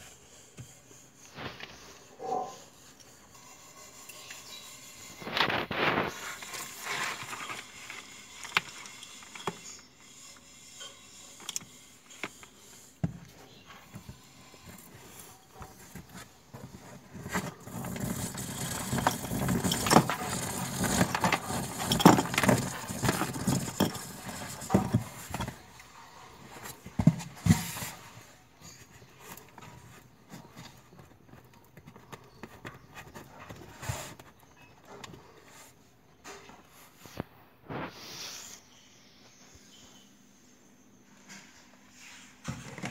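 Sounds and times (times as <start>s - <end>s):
cardboard rustling and scraping: 0.0s - 10.0s, 11.6s - 38.0s, 41.2s - 42.9s.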